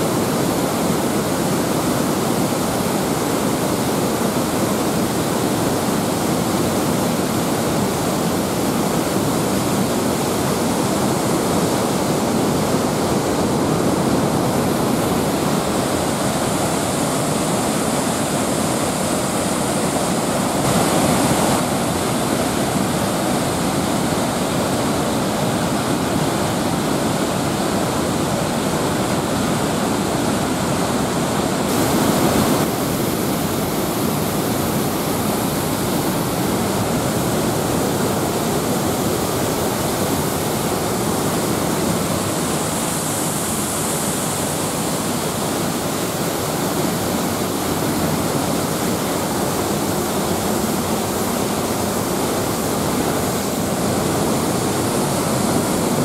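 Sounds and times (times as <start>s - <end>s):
river water rushing over dam: 0.0s - 56.0s.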